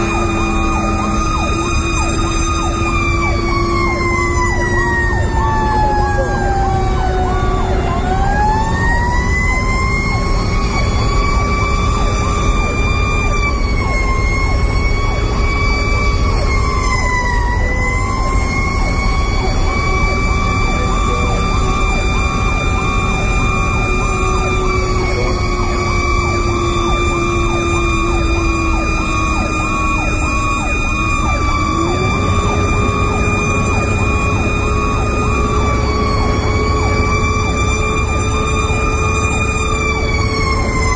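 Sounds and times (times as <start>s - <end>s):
fire engine siren: 0.0s - 40.9s
truck rumbling on road: 0.0s - 40.9s.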